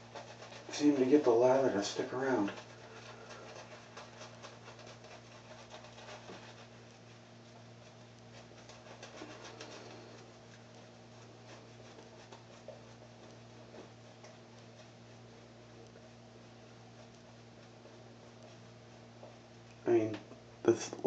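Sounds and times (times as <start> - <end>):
shaving brush scratching on stubble: 0.0 - 20.0
low steady hum: 0.0 - 21.0.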